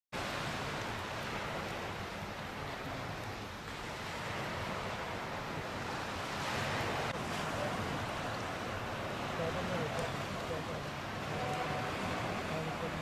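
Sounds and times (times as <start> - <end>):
small sea waves washing: 0.2 - 13.0
wind on microphone: 0.2 - 13.0.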